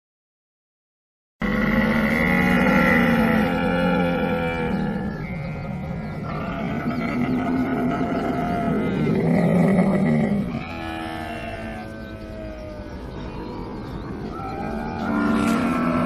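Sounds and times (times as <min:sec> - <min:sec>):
camel groaning and bellowing: 0:01.4 - 0:16.0.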